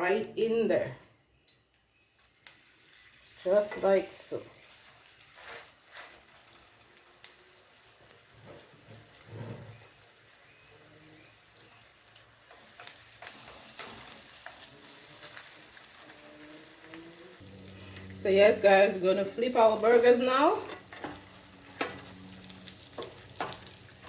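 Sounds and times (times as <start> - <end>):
burger patties sizzling in oil: 1.3 - 24.0
oil crackling and popping: 1.5 - 17.6, 20.7 - 24.0.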